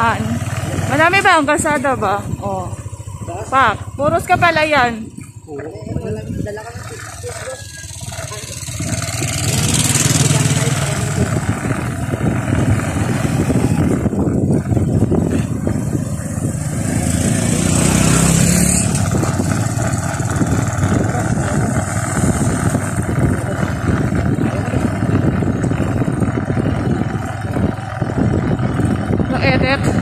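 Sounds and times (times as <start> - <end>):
vehicle running: 0.0 - 30.0
wind buffeting microphone: 0.0 - 30.0.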